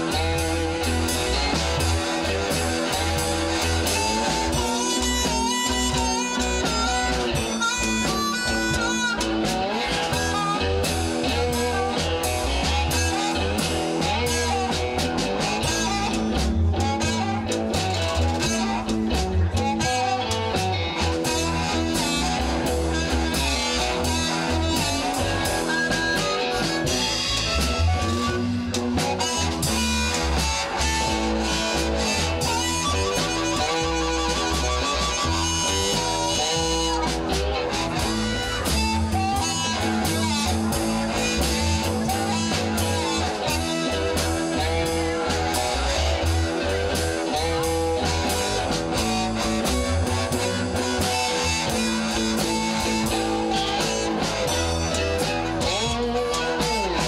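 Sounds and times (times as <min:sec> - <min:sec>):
blues band playing: 0:00.0 - 0:57.0
harmonica: 0:00.0 - 0:57.0.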